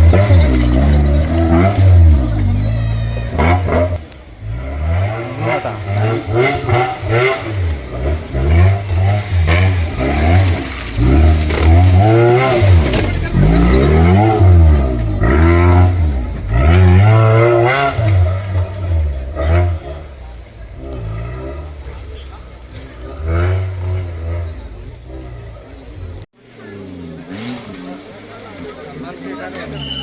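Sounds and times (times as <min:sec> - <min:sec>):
truck engine revving hard: 0:00.0 - 0:30.0.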